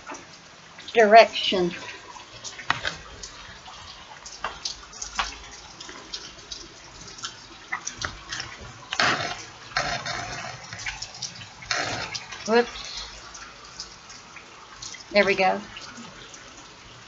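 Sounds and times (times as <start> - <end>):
drips tapping and splashing: 0.0 - 17.0
heavy rain falling: 0.0 - 17.0.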